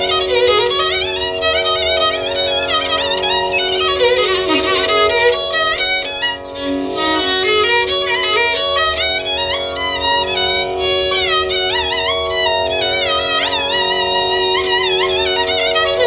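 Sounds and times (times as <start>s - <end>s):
steady drone: 0.0s - 16.0s
violin playing ornamented phrases: 0.0s - 16.0s.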